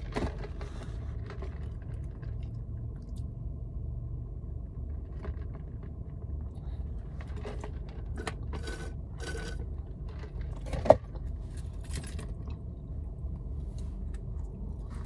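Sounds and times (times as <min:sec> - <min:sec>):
rustles and scrapes in car: 0:00.0 - 0:02.8, 0:04.7 - 0:15.0
low cabin rumble: 0:00.0 - 0:15.0.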